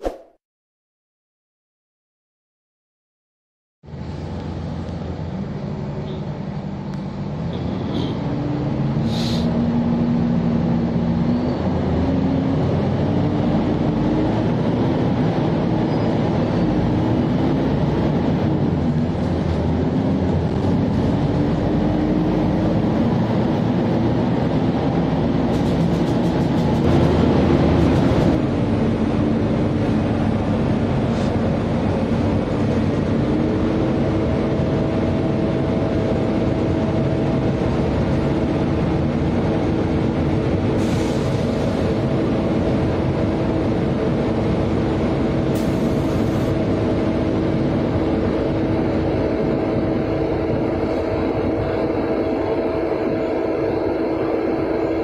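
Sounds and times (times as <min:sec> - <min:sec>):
bus engine: 0:03.8 - 0:55.0
road noise: 0:03.8 - 0:55.0.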